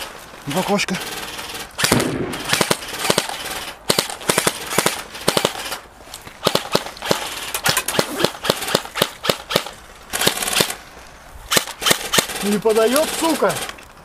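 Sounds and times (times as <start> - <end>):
airsoft rifles firing: 1.0 - 5.8, 6.4 - 10.8, 11.5 - 13.7.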